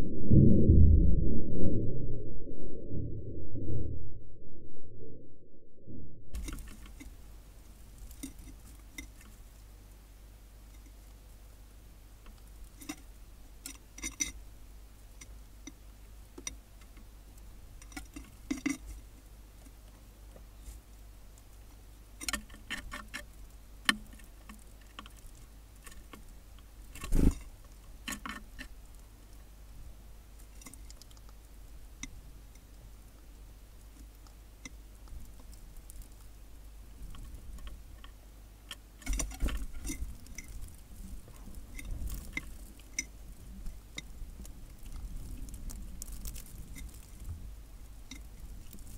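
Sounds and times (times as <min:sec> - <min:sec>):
birds pecking at seed: 0:06.4 - 0:48.9.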